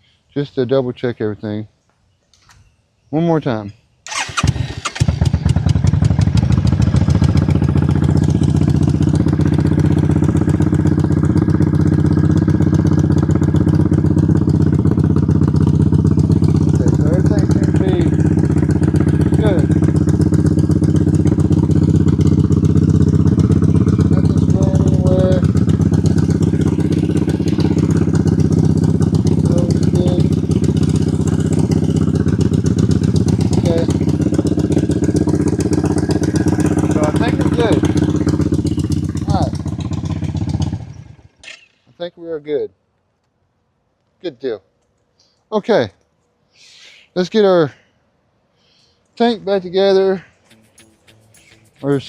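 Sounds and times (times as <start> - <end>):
motorcycle engine cranking and idling: 3.4 - 46.4, 49.0 - 52.0.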